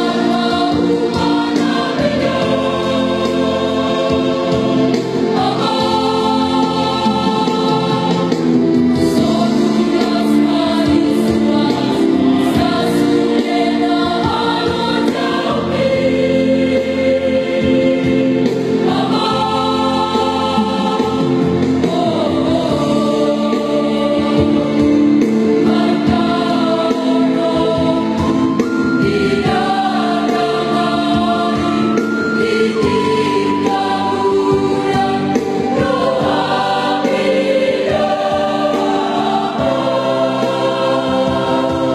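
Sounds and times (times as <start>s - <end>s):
choir singing in harmony: 0.0s - 41.9s.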